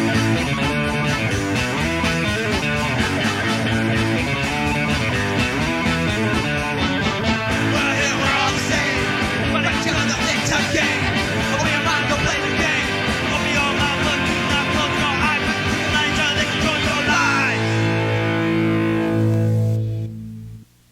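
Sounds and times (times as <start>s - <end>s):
punk rock band playing: 0.0s - 20.4s.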